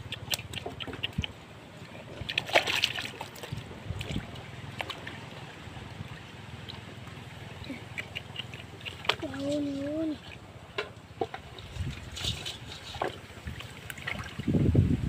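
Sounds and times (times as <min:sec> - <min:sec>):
hands sloshing through muddy water: 0:00.0 - 0:14.6
splashing water: 0:00.0 - 0:14.7.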